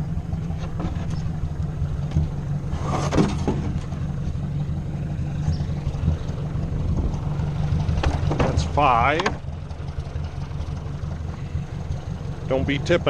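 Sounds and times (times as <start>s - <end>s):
engine clatter: 0.0s - 13.0s
tractor engine running: 0.0s - 13.0s.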